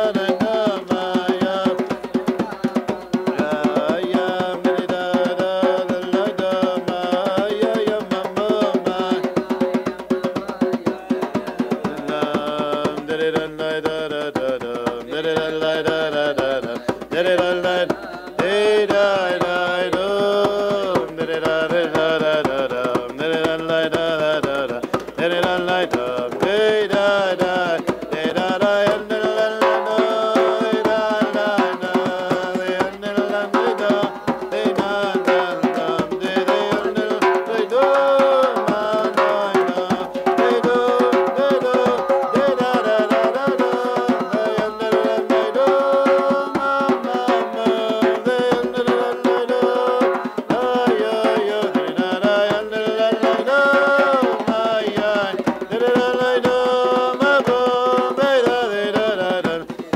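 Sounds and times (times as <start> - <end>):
hand drum beating: 0.0 - 59.9
man singing: 0.0 - 59.9.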